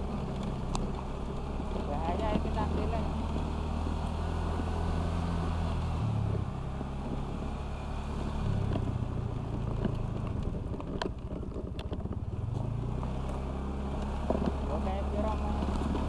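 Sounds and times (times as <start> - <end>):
scooter engine humming: 0.0 - 16.0.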